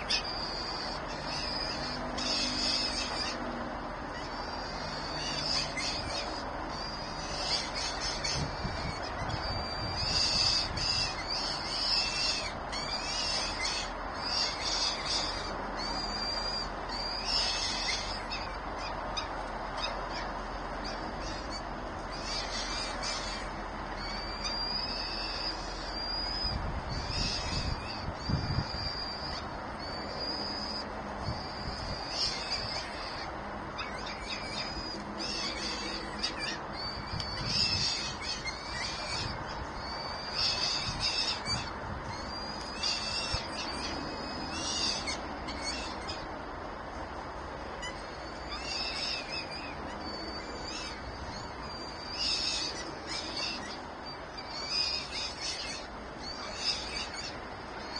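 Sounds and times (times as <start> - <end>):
birds high-pitched calls: 0.0 - 57.9.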